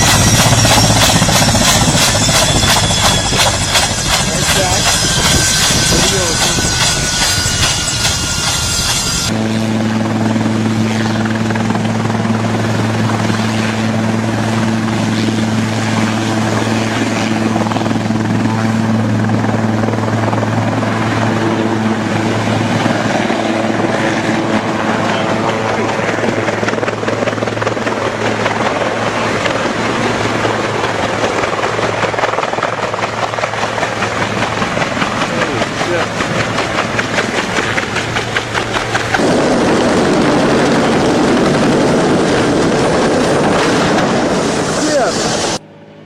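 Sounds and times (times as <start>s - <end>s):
helicopter rotor and engine noise: 0.0s - 46.0s.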